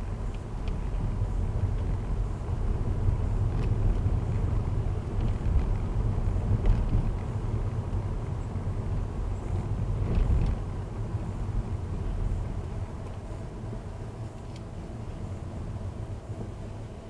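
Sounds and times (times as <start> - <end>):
rumble of tyres and suspension: 0.0 - 17.0.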